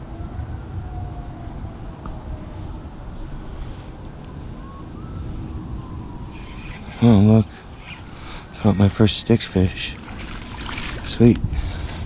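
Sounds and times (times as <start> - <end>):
faint siren wailing: 0.0 - 11.1
distant traffic rumble: 0.0 - 12.0.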